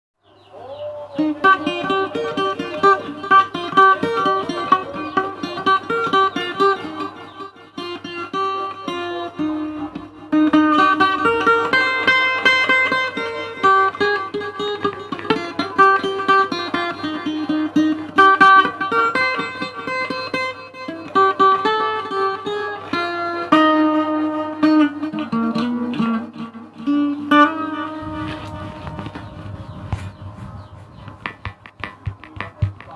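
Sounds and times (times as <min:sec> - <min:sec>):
plucked-string tune: 0:01.1 - 0:32.9.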